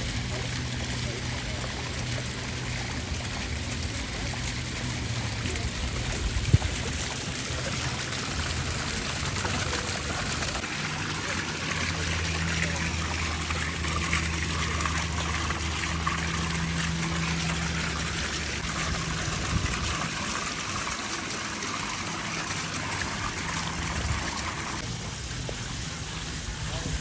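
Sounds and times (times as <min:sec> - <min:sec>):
low steady hum: 0:00.0 - 0:27.0
running water splashing: 0:00.0 - 0:27.0.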